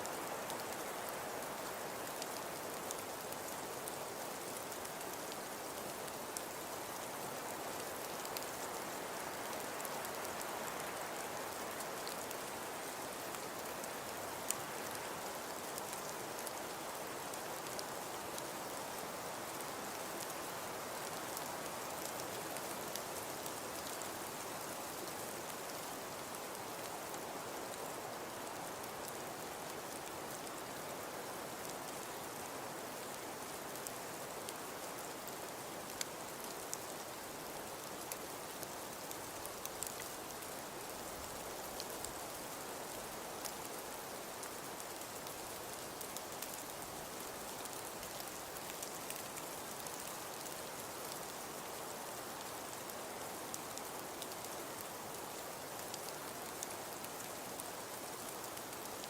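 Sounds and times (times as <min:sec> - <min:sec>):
soft hiss of falling snow: 0:00.0 - 0:59.0.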